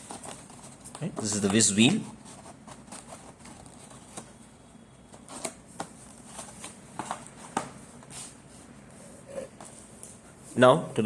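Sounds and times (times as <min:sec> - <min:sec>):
boxes and packaging rustling: 0:00.0 - 0:10.2.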